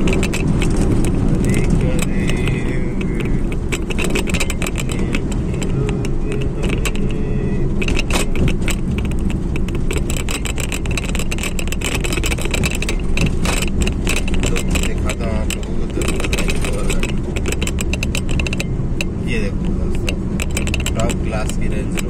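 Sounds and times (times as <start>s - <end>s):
car engine and tyres rumbling: 0.0s - 22.0s
small clicks and rattles: 0.0s - 22.0s.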